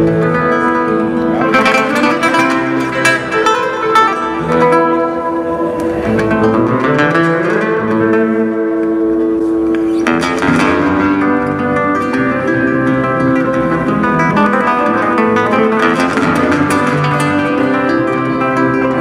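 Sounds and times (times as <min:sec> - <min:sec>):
fingerstyle classical guitar: 0:00.0 - 0:19.0.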